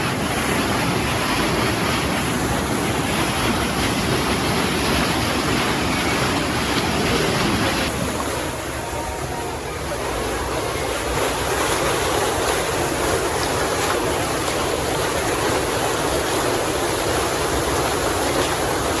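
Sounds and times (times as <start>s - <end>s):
water bubbling and gurgling: 0.0s - 19.0s.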